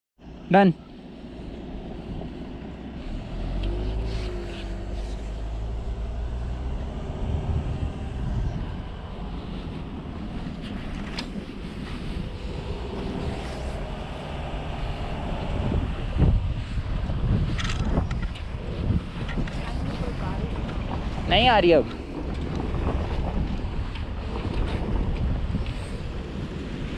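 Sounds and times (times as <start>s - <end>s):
car engine and tyre rumble: 0.2s - 26.9s.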